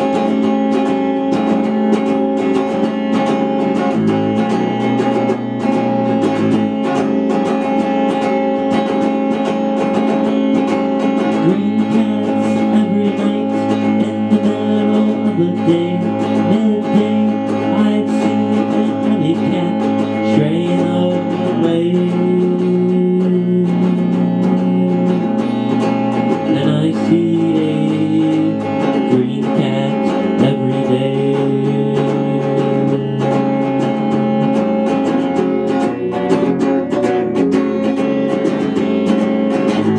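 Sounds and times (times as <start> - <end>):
electric guitar playing: 0.0 - 39.9.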